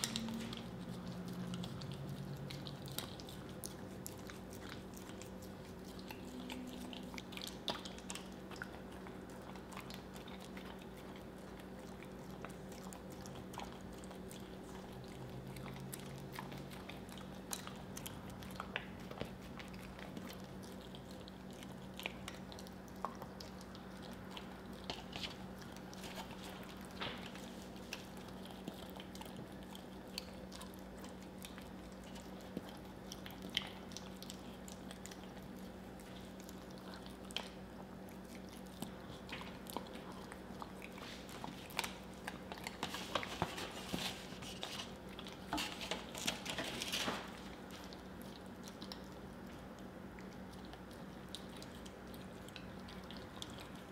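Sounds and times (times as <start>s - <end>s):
dog licking and smacking: 0.0s - 53.9s.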